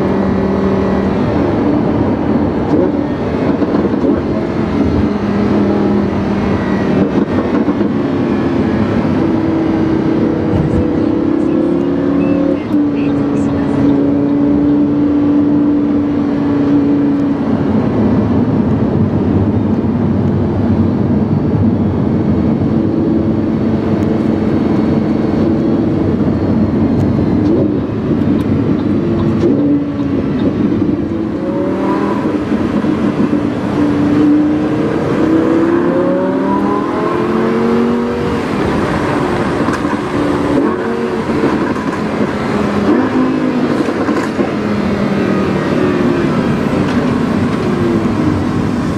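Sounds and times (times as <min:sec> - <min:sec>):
car engine revving and shifting: 0:00.0 - 0:48.9.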